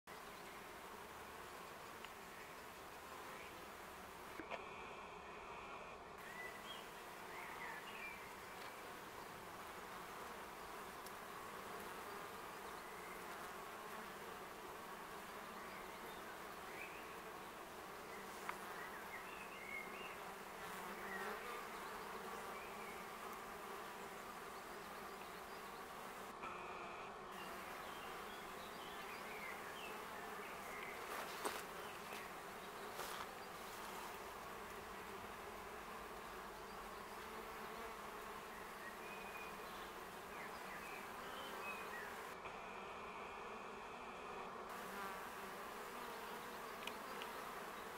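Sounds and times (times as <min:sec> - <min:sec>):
honeybees buzzing: 0:00.1 - 0:47.9.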